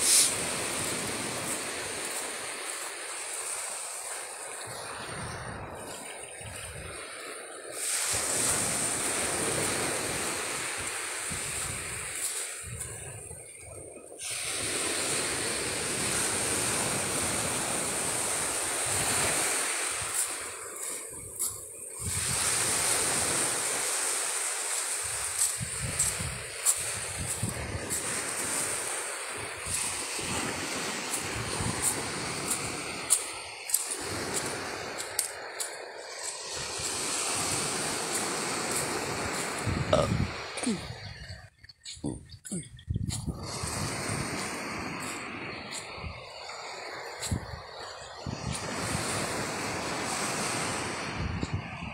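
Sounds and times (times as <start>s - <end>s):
surf breaking on pebbly beach: 0.0s - 13.6s, 14.2s - 41.1s, 43.3s - 51.6s
wind buffeting microphone: 4.6s - 7.1s, 7.8s - 24.0s, 25.0s - 51.9s.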